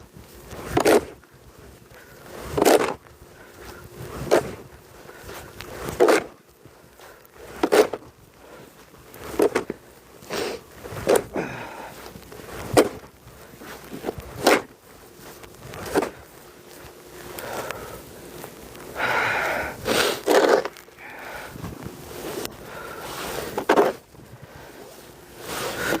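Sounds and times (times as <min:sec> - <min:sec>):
snow shovel scraping snow: 0:00.1 - 0:26.0.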